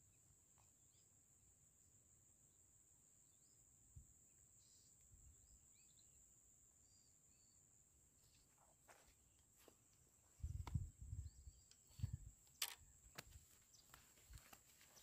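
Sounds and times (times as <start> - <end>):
faint bird chirps: 0.0 - 1.2, 3.2 - 9.4, 10.3 - 15.0.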